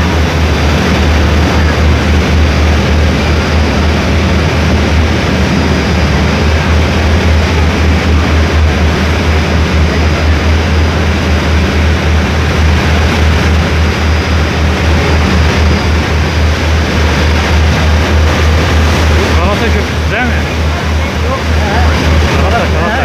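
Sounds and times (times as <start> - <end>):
ferry engine droning: 0.0 - 23.0
propeller wash churning: 0.0 - 23.0.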